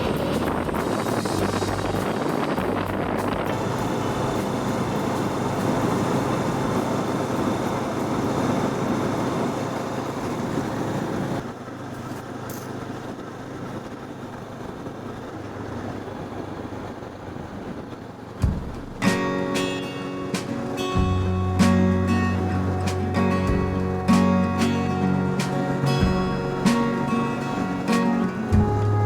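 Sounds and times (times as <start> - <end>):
wind noise: 0.0 - 11.5, 13.0 - 29.0
motorcycle engine running: 0.0 - 13.7, 18.4 - 29.0.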